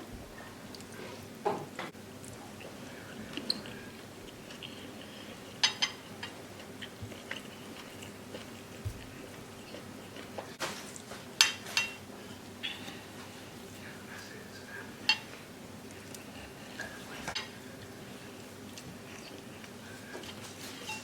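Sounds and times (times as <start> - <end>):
soft chewing: 0.3 - 1.4, 2.2 - 21.0.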